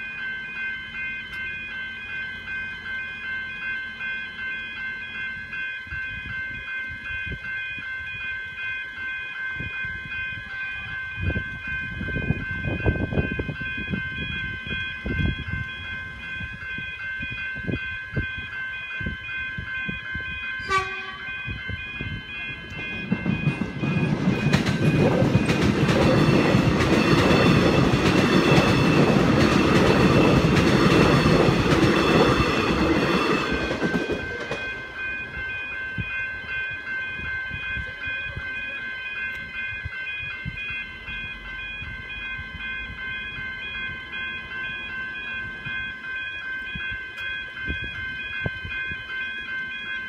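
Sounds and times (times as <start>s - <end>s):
crossing warning bells ringing: 0.0s - 50.0s
train wheel and rail noise: 0.0s - 50.0s.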